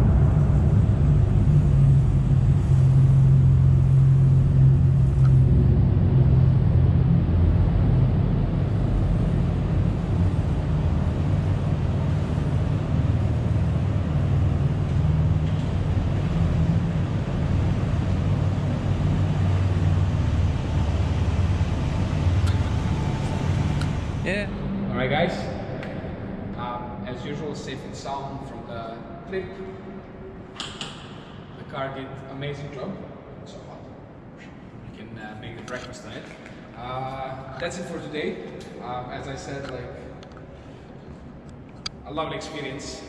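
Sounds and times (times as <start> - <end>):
deep exhaust drone: 0.0 - 43.0.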